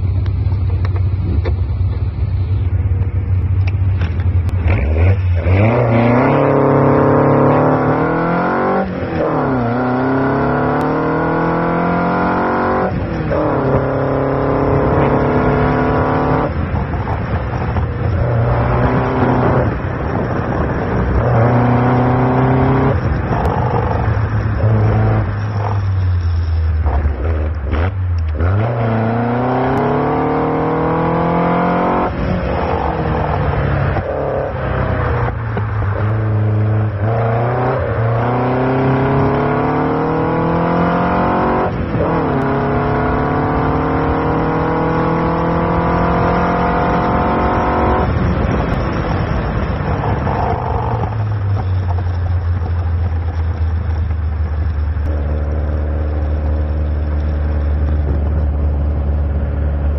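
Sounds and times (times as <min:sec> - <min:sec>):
car engine revving and accelerating: 0:03.9 - 0:59.9.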